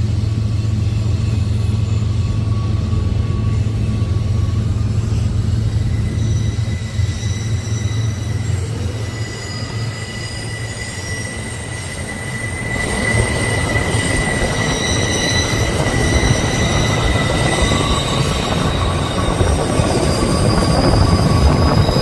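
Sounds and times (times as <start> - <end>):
rumble of rolling train cars: 0.0 - 22.0
train wheels squealing on rails: 0.0 - 22.0.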